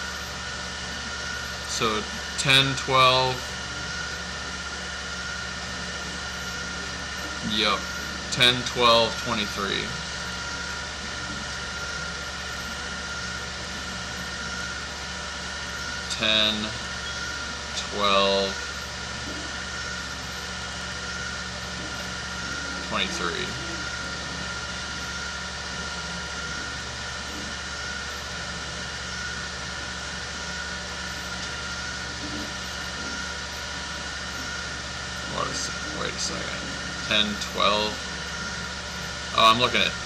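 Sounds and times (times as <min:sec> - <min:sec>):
low hum and hiss: 0:00.0 - 0:40.0
thin steady whine: 0:00.0 - 0:40.0.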